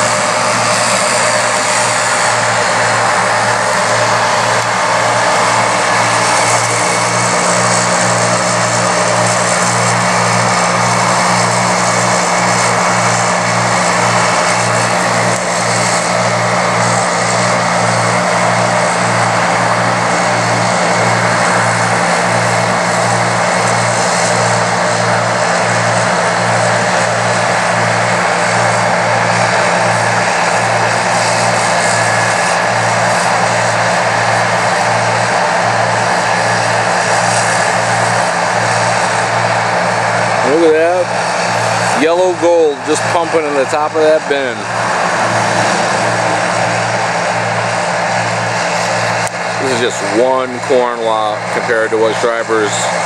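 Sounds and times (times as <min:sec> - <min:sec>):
farm machinery droning: 0:00.0 - 0:53.0.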